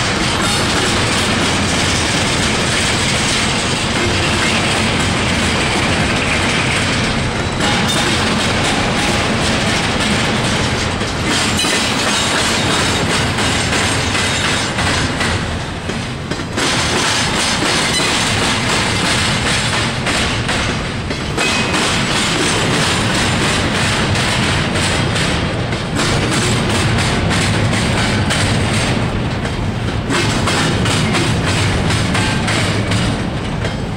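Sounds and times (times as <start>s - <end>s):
freight train wheels clicking: 0.0s - 33.9s.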